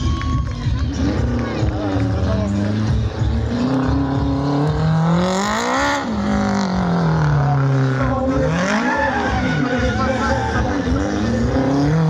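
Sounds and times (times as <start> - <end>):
small car engine revving: 0.7 - 12.0.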